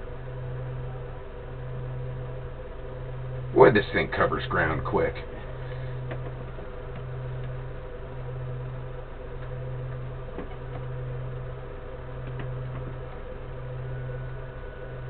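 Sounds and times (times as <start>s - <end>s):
low pulsing machine hum: 0.0s - 15.0s.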